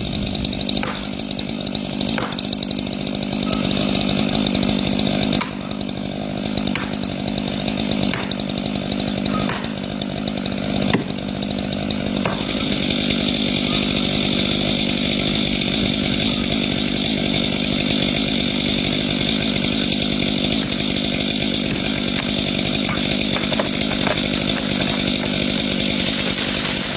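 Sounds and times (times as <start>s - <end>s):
chainsaw cutting wood: 0.0s - 26.9s.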